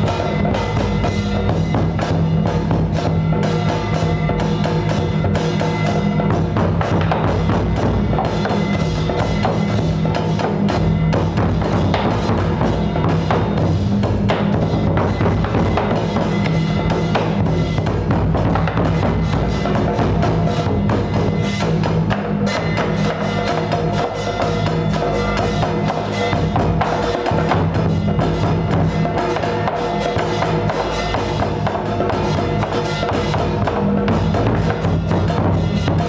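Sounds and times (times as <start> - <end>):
drums playing fast beat: 0.0 - 36.0.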